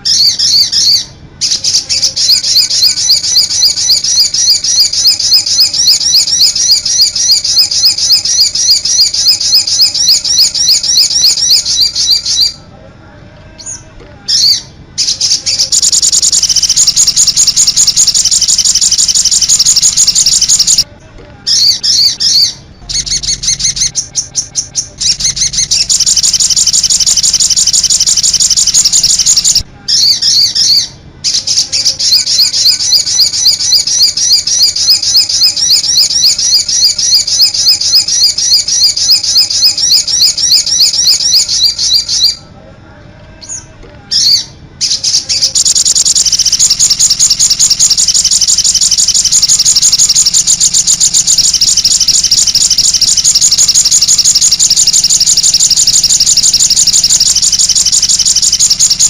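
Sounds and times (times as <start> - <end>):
songbird chirping: 0.0 - 12.7, 13.5 - 42.6, 43.4 - 59.0.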